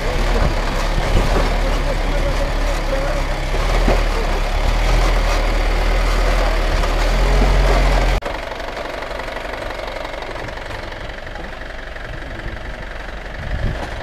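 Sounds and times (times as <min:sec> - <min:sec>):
engine low rumble: 0:00.0 - 0:14.0
quieter engine running: 0:00.0 - 0:14.0.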